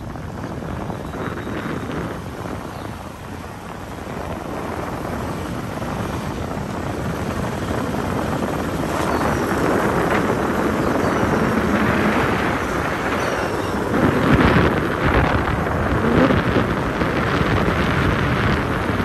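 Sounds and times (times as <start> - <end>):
vehicle engine rumble: 0.0 - 19.0
wind on microphone: 0.0 - 19.0.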